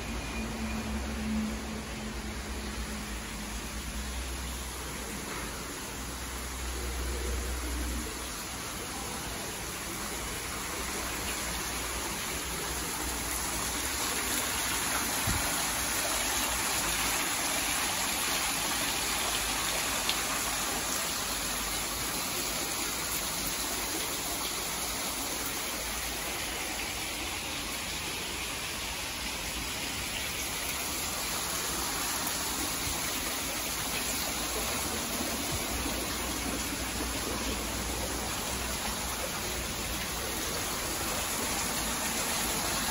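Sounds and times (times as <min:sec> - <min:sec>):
running water rushing: 0:00.0 - 0:42.9.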